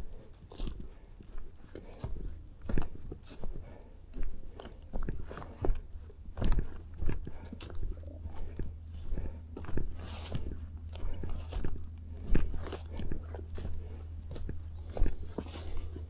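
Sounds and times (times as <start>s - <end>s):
footsteps crunching on forest ground: 0.0s - 16.0s
steady low rumble: 0.0s - 16.0s.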